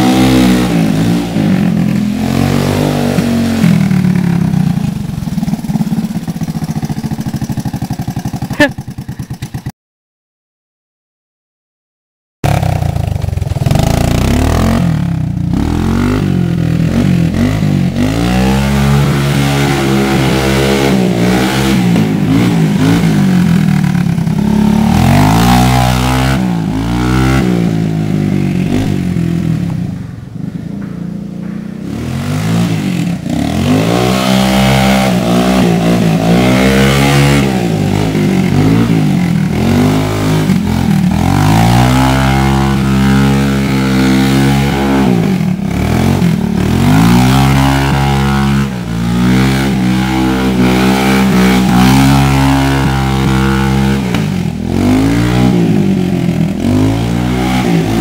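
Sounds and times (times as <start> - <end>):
quad bike engine revving: 0.0 - 9.7, 12.4 - 58.0.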